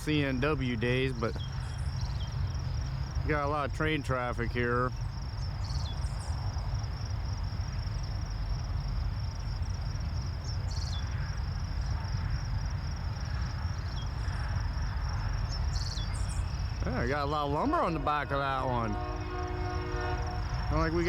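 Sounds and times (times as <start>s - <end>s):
freight train rumbling past: 0.0s - 21.0s
insects droning: 0.0s - 21.0s.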